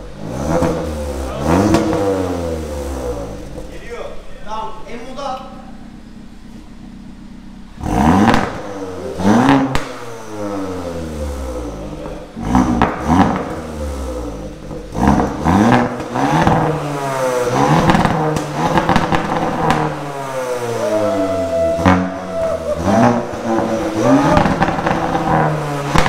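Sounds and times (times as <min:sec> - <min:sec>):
car engine revving: 0:00.0 - 0:04.8, 0:05.4 - 0:26.0
exhaust cracks: 0:00.0 - 0:26.0.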